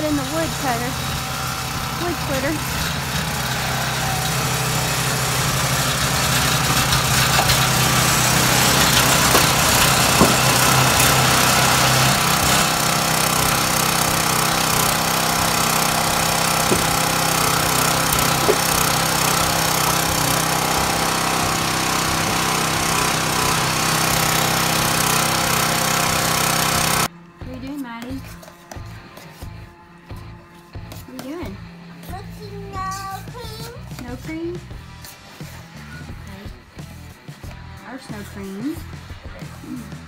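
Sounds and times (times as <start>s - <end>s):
small gas engine running: 0.0s - 40.0s.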